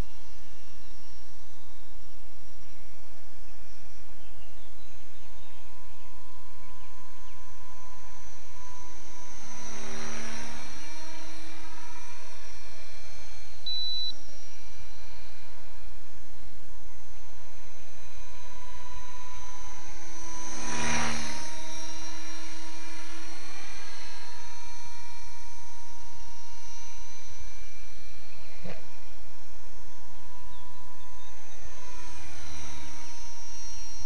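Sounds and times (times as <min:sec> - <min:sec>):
model aircraft engine droning: 0:00.0 - 0:34.0.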